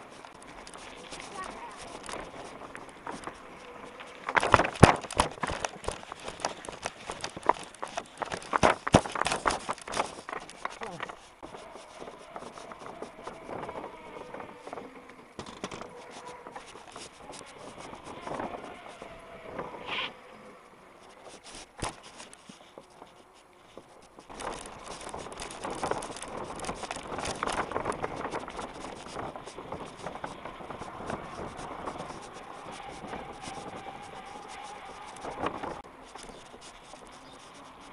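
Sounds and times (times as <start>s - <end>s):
bike rattling and clattering: 0.0s - 20.3s, 20.9s - 37.9s
bike tyre noise on paving: 0.0s - 37.9s.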